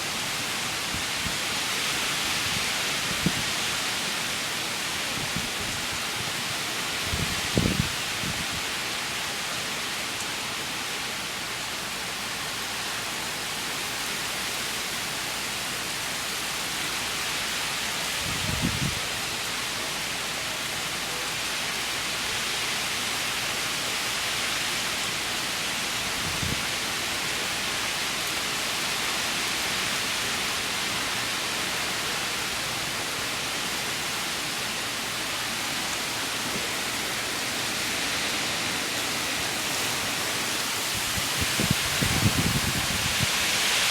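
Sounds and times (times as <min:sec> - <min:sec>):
heavy rain hissing: 0:00.0 - 0:43.9
wind: 0:00.0 - 0:43.9.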